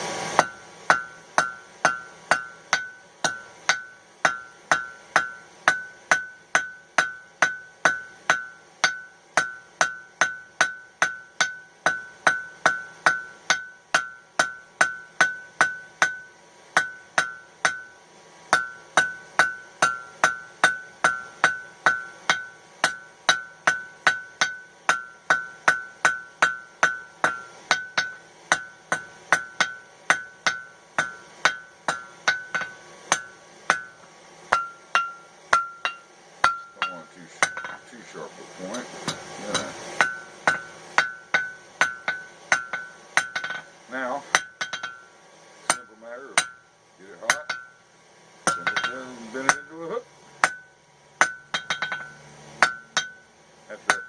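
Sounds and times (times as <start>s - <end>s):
hammer ringing on an anvil: 0.4s - 37.9s, 38.7s - 43.7s, 44.3s - 45.1s, 45.7s - 46.6s, 47.3s - 47.8s, 48.5s - 49.8s, 50.4s - 54.0s.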